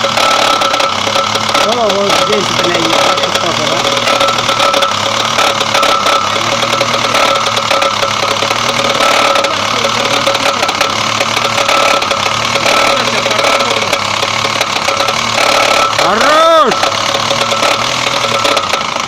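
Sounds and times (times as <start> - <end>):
car engine knocking: 0.0 - 19.0.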